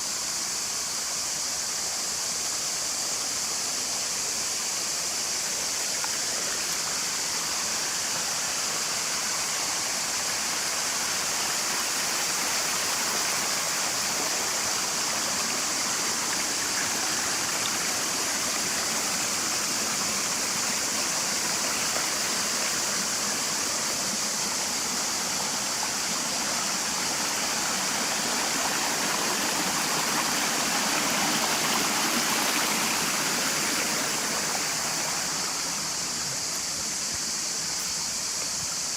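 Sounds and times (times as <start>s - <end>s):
high-pitched hiss: 0.0s - 38.9s
stream and waterfall rushing: 0.0s - 38.9s.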